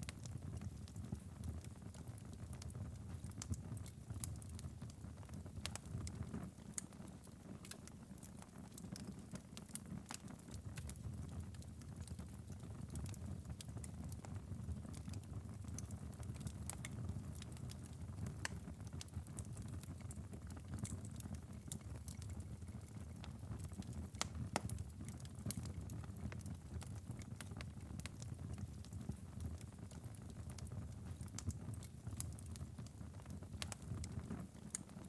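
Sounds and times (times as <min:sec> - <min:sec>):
fire snaps and pops: 0:00.0 - 0:35.0
wood fire crackling: 0:00.0 - 0:35.0.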